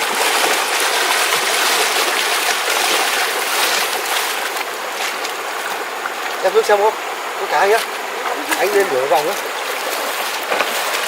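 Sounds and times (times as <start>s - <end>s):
faint water splashes: 0.0s - 11.0s
stream water rushing: 0.0s - 11.0s.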